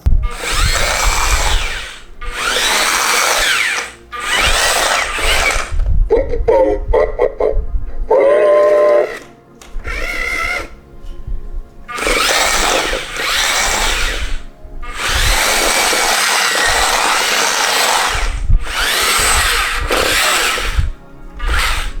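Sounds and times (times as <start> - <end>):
toy robot motors whirring: 0.0 - 6.0, 8.4 - 10.8, 11.9 - 22.0.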